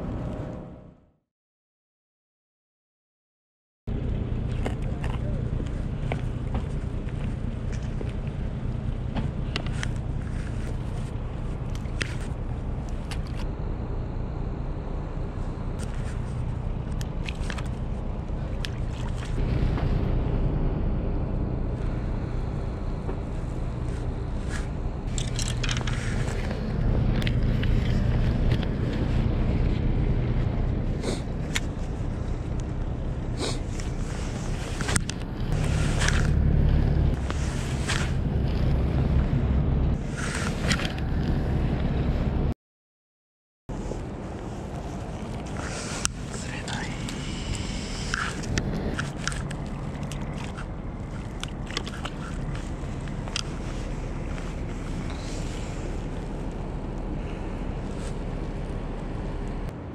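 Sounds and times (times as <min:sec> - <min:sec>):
low rumble: 0:03.9 - 0:42.5, 0:43.7 - 0:59.9.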